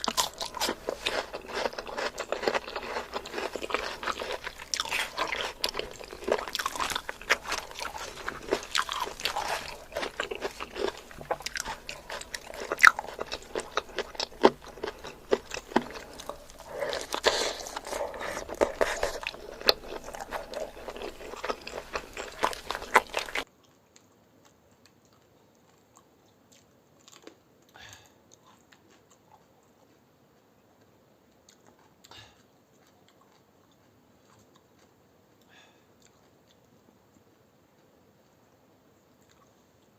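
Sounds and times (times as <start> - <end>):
person chewing crunchy food: 0.0 - 27.4, 28.3 - 38.0.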